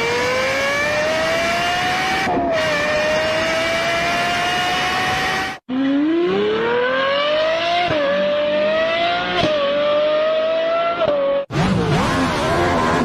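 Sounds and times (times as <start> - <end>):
racing car engine accelerating: 0.0 - 13.0.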